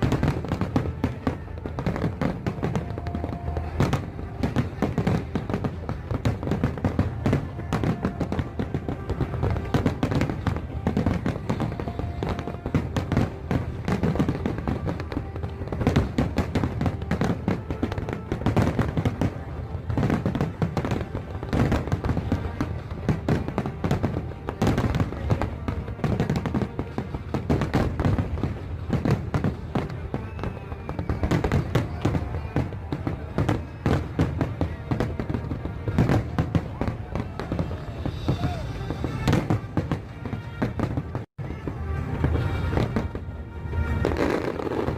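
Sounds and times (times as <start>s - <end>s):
fireworks bangs and crackles: 0.0s - 44.9s
music playing: 0.0s - 44.9s.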